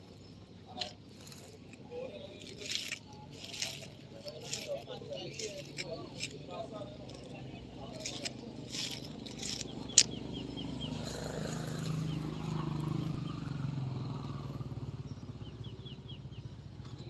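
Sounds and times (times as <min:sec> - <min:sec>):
motor engine running: 0:00.8 - 0:17.0.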